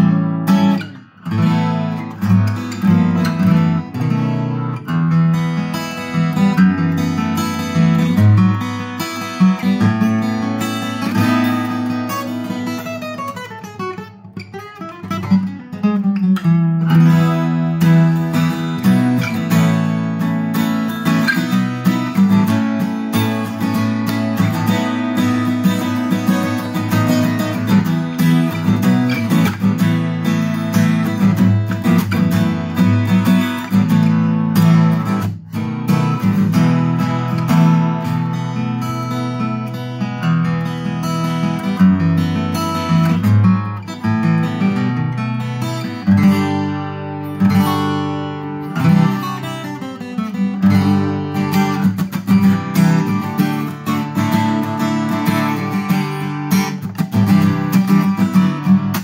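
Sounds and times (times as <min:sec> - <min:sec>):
fingerstyle acoustic guitar: 0:00.0 - 0:59.0.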